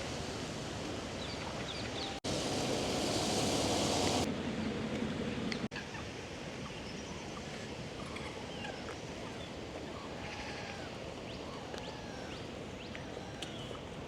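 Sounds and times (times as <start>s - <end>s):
distant traffic hiss: 0.0s - 14.0s.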